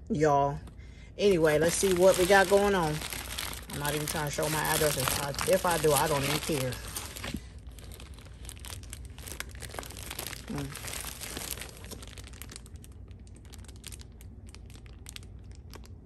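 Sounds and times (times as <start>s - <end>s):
paper and plastic crinkling: 1.3s - 16.0s.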